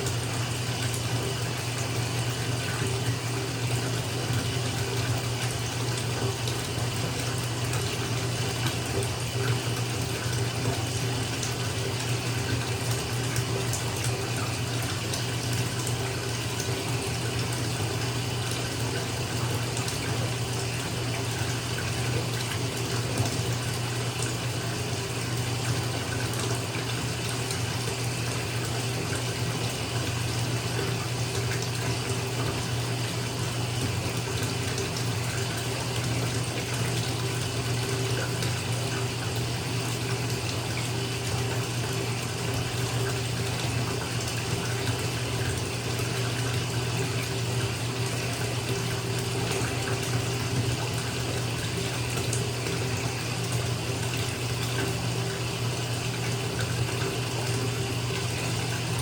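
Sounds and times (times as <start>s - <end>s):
tap water pouring into tub: 0.0s - 59.0s.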